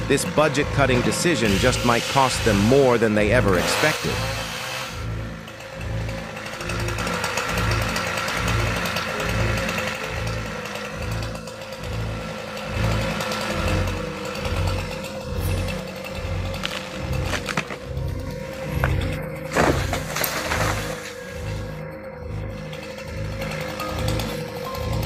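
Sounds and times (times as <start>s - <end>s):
chainsaw running: 0.0s - 25.0s.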